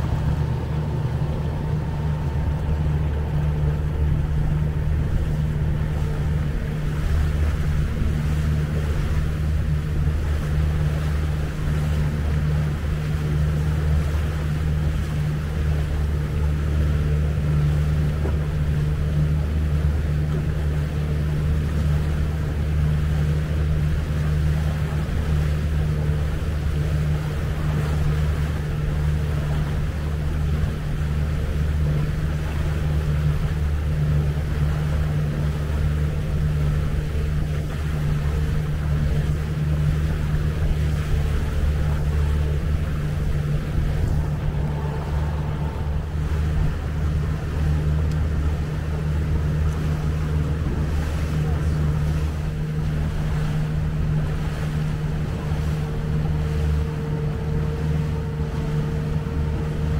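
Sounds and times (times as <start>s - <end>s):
outboard motor droning: 0.0s - 59.9s
wind and water rushing: 0.0s - 59.9s.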